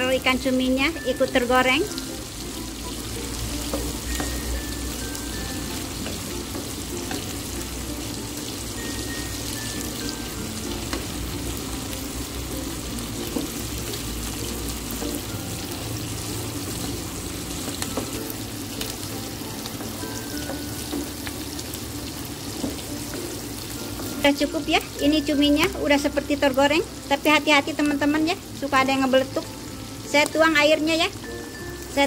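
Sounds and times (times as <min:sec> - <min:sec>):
oil sizzling in a wok: 0:00.0 - 0:32.0.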